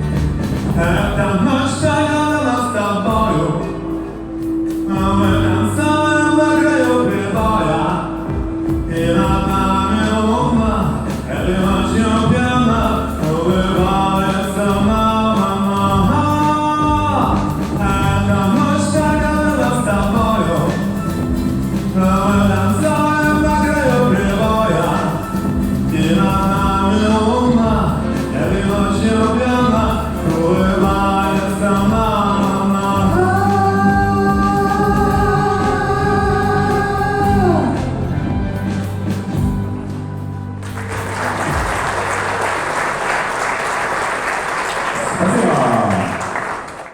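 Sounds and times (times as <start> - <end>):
person singing: 0.0 - 39.9
pop backing track with bass: 0.0 - 42.8.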